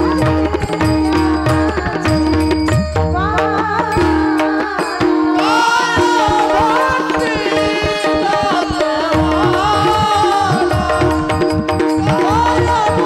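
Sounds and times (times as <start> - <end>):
gliding wavering melody: 0.0 - 13.0
steady held drone: 0.0 - 13.0
tabla drumming: 0.0 - 13.0.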